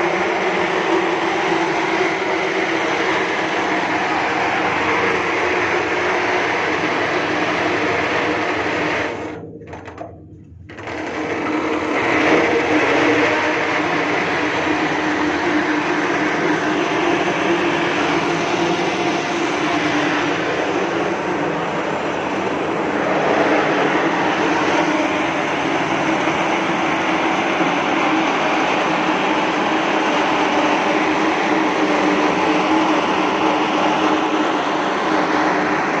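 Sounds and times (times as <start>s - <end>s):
mechanical running noise: 0.0s - 36.0s.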